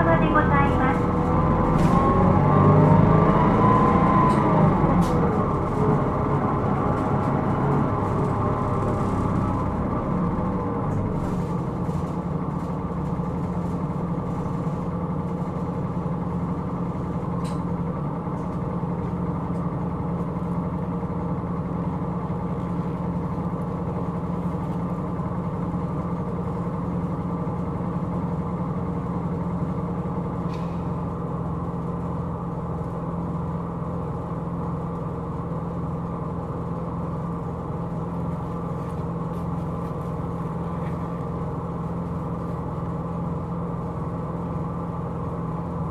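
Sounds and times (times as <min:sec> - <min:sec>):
bus diesel engine droning: 0:00.0 - 0:45.9.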